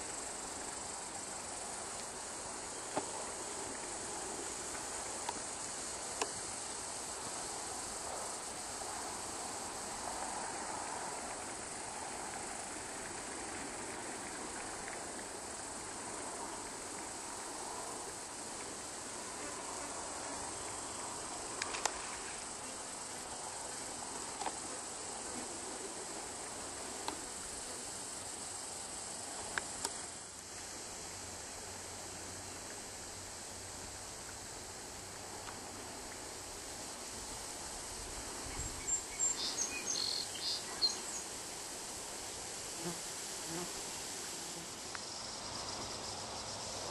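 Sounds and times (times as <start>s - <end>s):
continuous high hiss: 0.0s - 46.9s.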